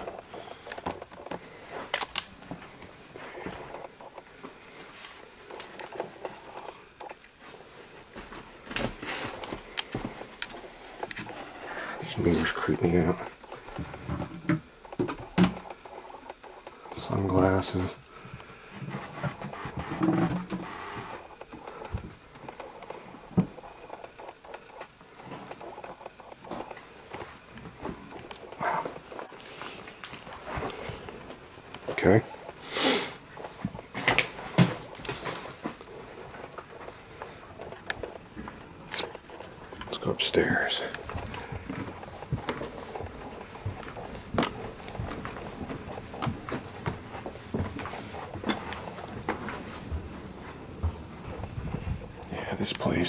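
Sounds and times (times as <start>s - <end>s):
footsteps in a room: 0.0s - 52.5s.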